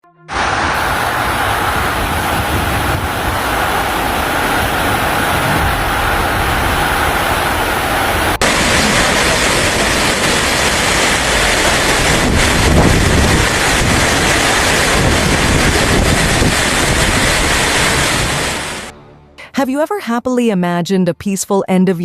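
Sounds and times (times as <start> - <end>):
rushing water: 0.3 - 18.9
wind buffeting microphone: 0.8 - 18.9.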